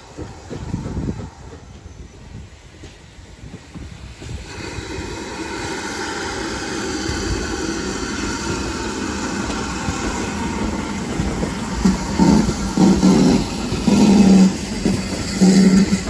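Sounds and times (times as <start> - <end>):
steam locomotive hiss and rumble: 0.0 - 16.0.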